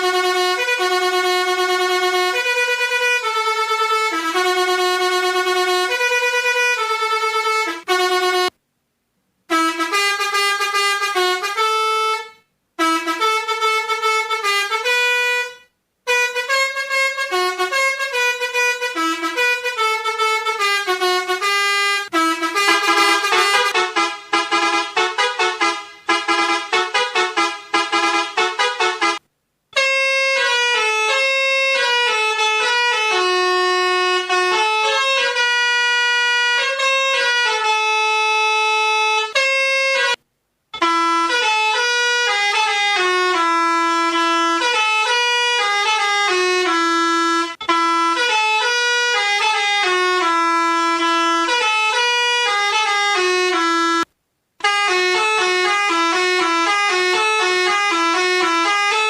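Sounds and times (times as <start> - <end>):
melodica playing held notes: 0.0 - 8.5, 9.5 - 29.2, 29.8 - 40.2, 40.8 - 59.0.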